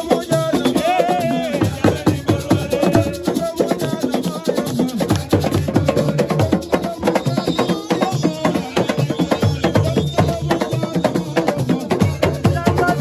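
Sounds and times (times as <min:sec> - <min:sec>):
hand drums: 0:00.0 - 0:13.0
shaker rattles: 0:00.0 - 0:13.0.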